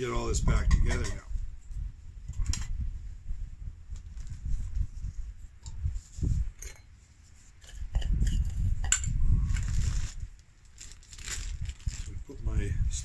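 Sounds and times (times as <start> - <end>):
wind rumble on microphone: 0.0 - 6.8, 7.6 - 13.0.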